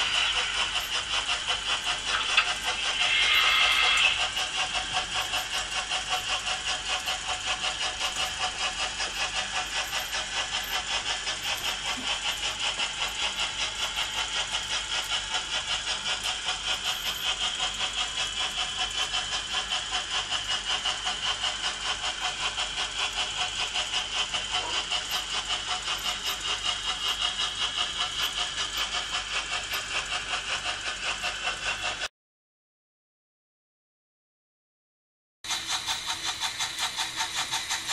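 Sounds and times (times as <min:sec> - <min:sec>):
model train wheels clattering: 0:00.0 - 0:32.1, 0:35.5 - 0:37.9.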